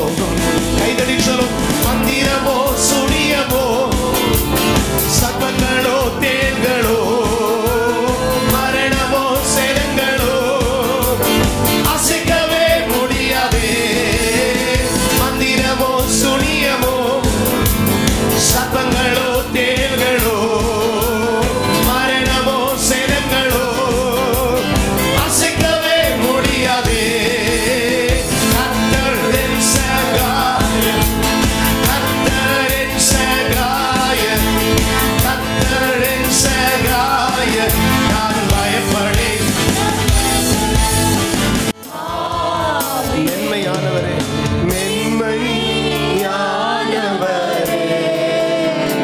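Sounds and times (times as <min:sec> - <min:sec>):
man singing into microphone: 0:00.0 - 0:41.4, 0:42.7 - 0:49.0
instrumental accompaniment with beat: 0:00.0 - 0:49.0.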